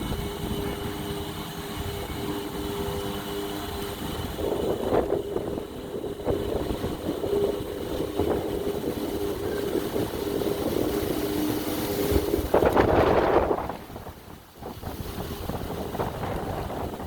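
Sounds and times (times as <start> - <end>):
low machine hum: 0.0 - 17.0
storm wind buffeting microphone: 0.0 - 17.0.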